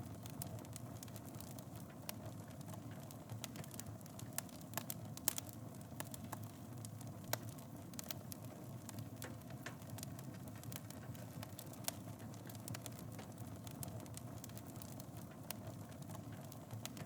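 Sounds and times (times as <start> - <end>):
fire crackling and popping: 0.0 - 17.0
wood fire rumbling: 0.0 - 17.0.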